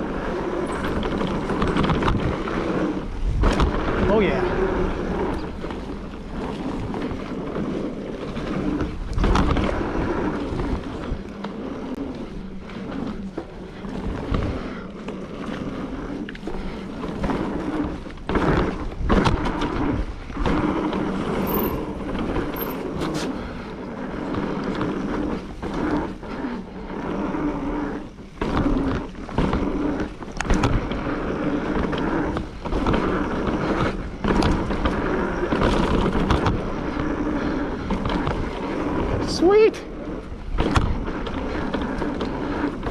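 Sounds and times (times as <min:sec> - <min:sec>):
bike knocking and rattling: 0:00.0 - 0:42.9
bike tyres on dirt: 0:00.0 - 0:42.9.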